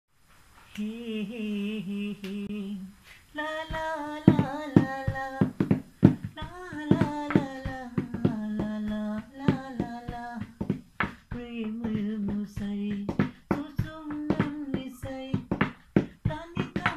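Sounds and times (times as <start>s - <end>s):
man singing unaccompanied: 0.7s - 16.9s.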